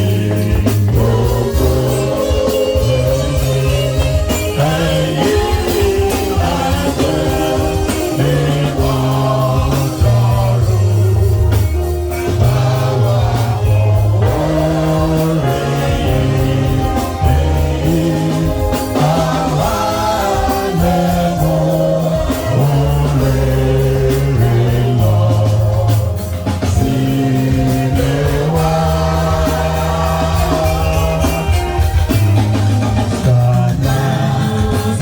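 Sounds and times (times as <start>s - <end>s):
band with strong bass line: 0.0s - 35.0s
gospel singing: 0.0s - 35.0s.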